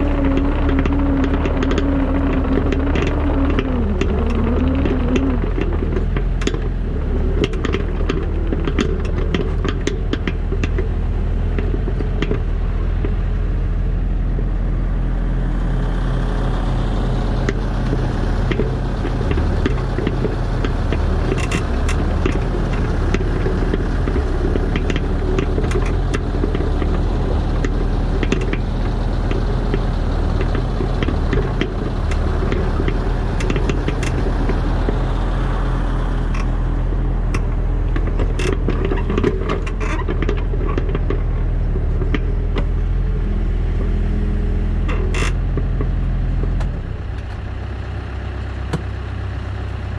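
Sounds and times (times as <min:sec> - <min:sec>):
sharp clicks and rattles: 0:00.0 - 0:13.4, 0:17.2 - 0:44.0, 0:44.8 - 0:47.7
diesel engine running: 0:00.0 - 0:49.9.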